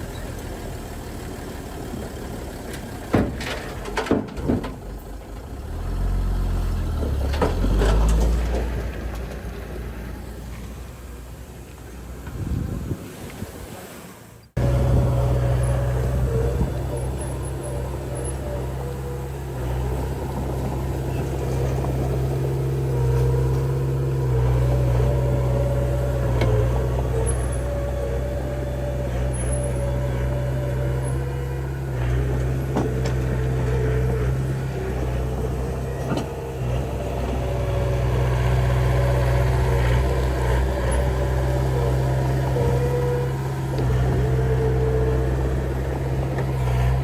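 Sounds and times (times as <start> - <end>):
diesel engine humming under load: 0.0 - 47.0.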